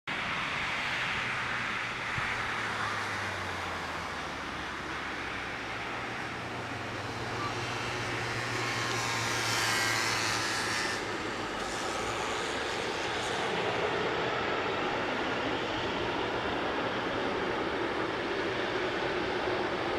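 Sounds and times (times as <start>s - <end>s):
jet engine rumble with hiss: 0.1s - 19.9s.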